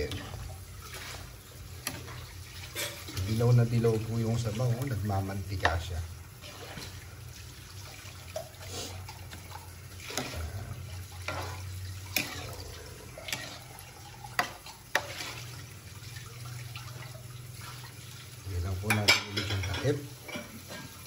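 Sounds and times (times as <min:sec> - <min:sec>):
rice and broth sloshing: 0:00.0 - 0:21.0.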